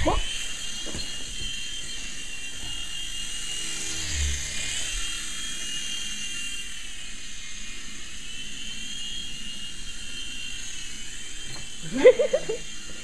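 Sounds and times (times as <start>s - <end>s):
remote-control helicopter rotor whine: 0.0s - 13.0s.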